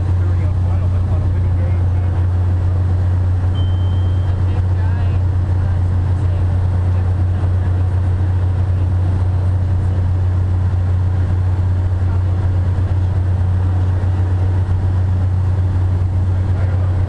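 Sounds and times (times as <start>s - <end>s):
airplane engine drone in cabin: 0.0s - 17.0s.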